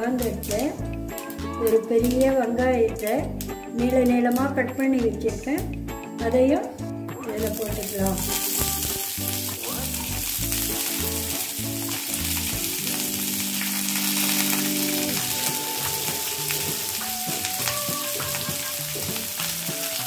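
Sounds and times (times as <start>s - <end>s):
onions sizzling in hot oil: 0.0s - 5.8s, 7.2s - 20.0s
background music with held chords: 0.0s - 20.0s.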